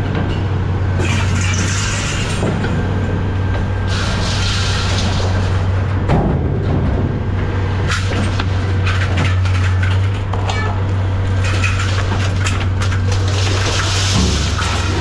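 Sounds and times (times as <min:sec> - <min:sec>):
heavy machine engine drone: 0:00.0 - 0:15.0
scrap metal clanking: 0:01.0 - 0:02.7, 0:03.9 - 0:07.0, 0:07.8 - 0:15.0.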